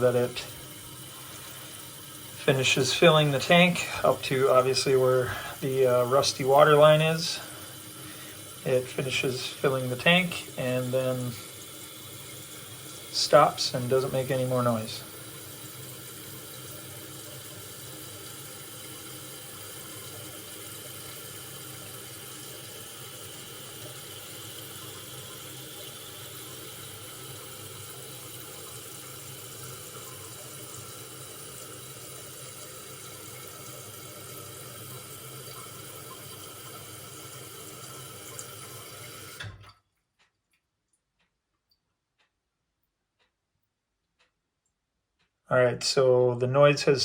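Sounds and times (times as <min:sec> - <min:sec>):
fill valve shutting off: 0:00.0 - 0:39.7
toilet tank refilling hiss: 0:00.0 - 0:39.7.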